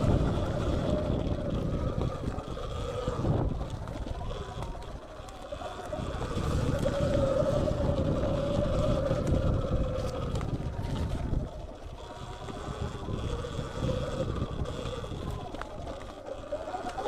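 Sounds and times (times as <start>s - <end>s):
electric motorbike whine: 0.0s - 17.0s
rumble of bumps: 0.0s - 17.0s
wind rushing on microphone: 0.0s - 17.0s.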